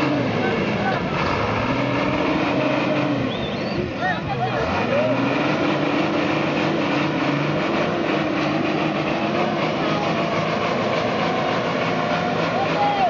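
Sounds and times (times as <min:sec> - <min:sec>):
people's voices: 0:00.0 - 0:13.0
vehicle engine running hard: 0:00.0 - 0:13.0.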